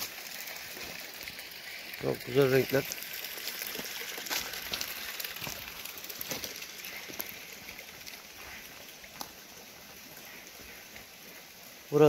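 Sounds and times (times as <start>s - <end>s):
crackling drips: 0.0s - 12.0s
water splashing into a pond: 0.0s - 12.0s.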